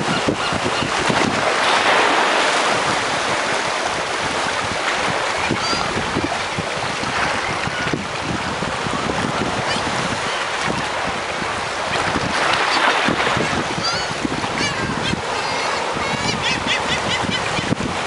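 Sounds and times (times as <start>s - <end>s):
water lapping on rocky shore: 0.0s - 18.0s
wind buffeting microphone: 0.0s - 18.0s.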